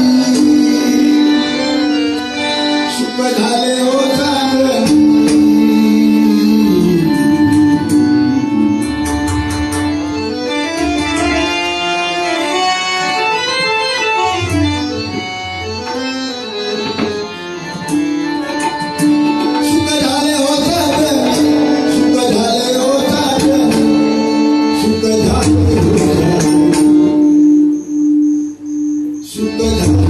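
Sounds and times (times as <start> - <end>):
harmonium melody: 0.0 - 30.0.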